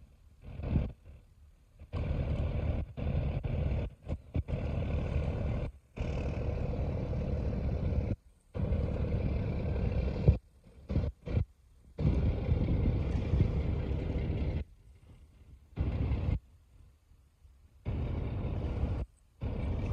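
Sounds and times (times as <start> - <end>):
boat engine running: 0.0 - 16.5, 17.8 - 19.9.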